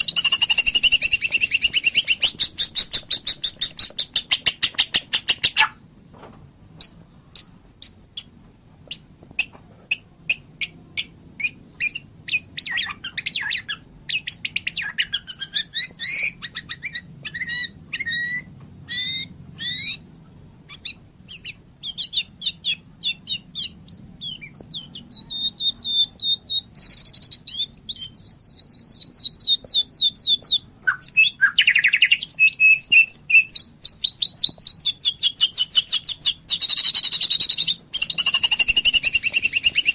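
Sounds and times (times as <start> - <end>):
fast rattling bird trills: 0.0 - 5.8, 6.8 - 39.9
songbird singing whistled phrases: 0.0 - 5.9, 8.9 - 39.9
sharp bird notes: 0.0 - 6.0, 6.8 - 39.9.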